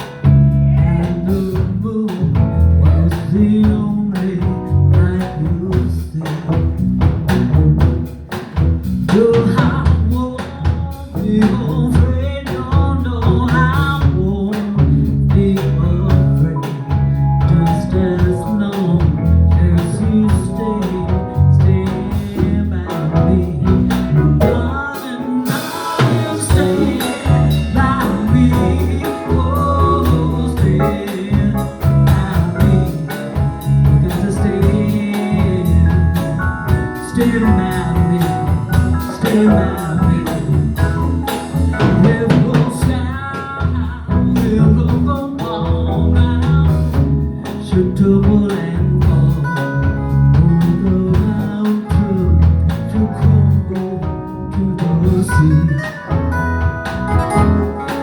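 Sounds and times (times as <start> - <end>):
bass guitar: 0.0 - 58.0
drum kit beat: 0.0 - 58.0
live band music: 0.0 - 58.0.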